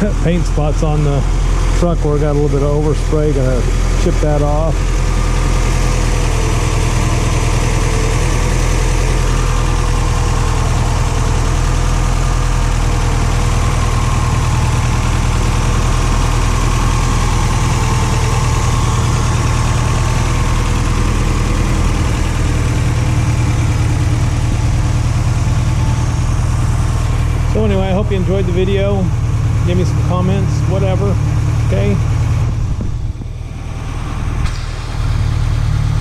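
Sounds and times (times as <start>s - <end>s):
pickup engine idling: 0.0s - 36.0s.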